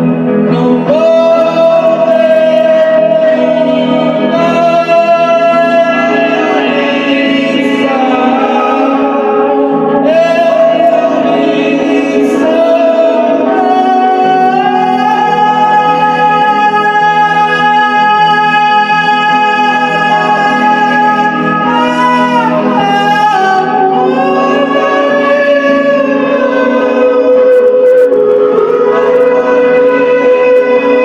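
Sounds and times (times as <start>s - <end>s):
melody of long held notes: 0.0s - 31.0s.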